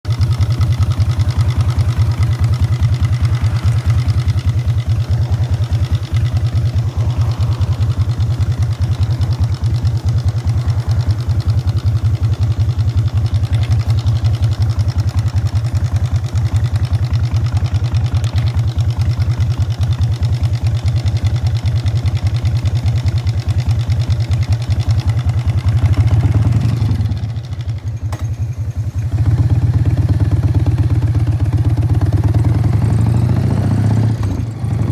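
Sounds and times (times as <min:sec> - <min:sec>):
motorcycle exhaust deep pulses: 0:00.0 - 0:34.9.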